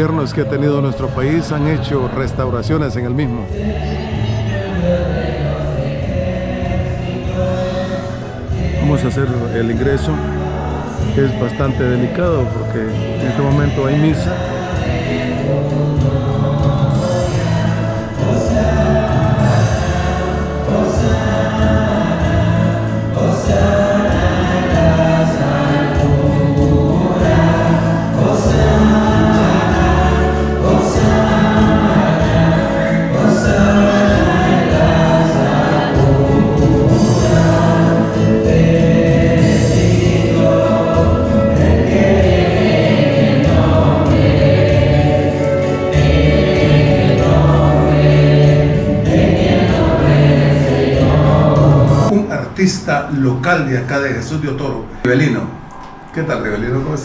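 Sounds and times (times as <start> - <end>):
choir singing a hymn: 0.0 - 52.2
instrumental accompaniment with bass: 0.0 - 52.2.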